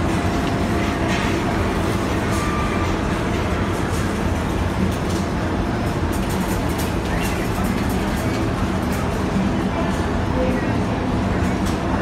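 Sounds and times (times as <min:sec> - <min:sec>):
shop background din: 0:00.0 - 0:12.0.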